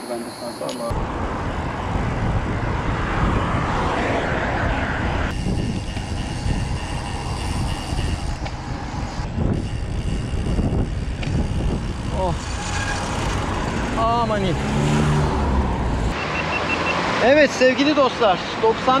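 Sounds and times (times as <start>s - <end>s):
road and traffic noise: 0.0s - 19.0s
wind rushing over microphone: 0.9s - 16.2s.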